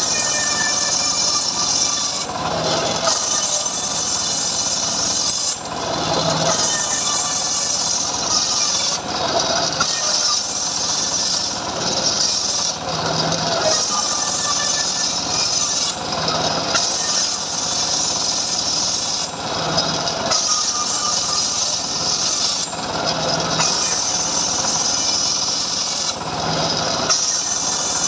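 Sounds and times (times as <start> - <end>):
circular saw cutting wood: 0.0 - 28.0
saw running hum: 0.0 - 28.0.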